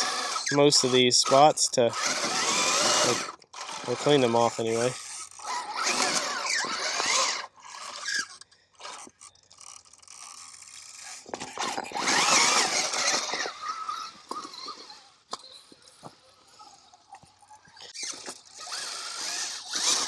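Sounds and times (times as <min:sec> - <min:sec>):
electric motor whine: 0:00.0 - 0:15.1, 0:17.9 - 0:20.0
tires scraping on rock: 0:00.0 - 0:20.0.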